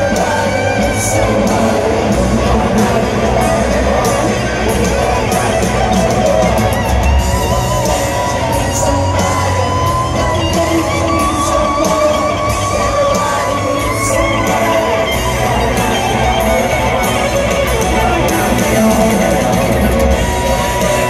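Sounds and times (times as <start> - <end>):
bass guitar: 0.0 - 21.0
drums: 0.0 - 21.0
electric guitar lead lines: 0.0 - 21.0
man singing: 0.0 - 21.0.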